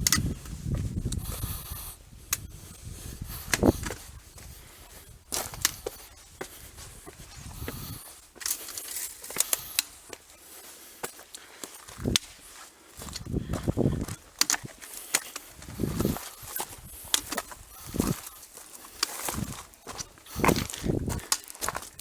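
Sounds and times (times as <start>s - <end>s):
footsteps on gravel and rock: 0.0s - 22.0s.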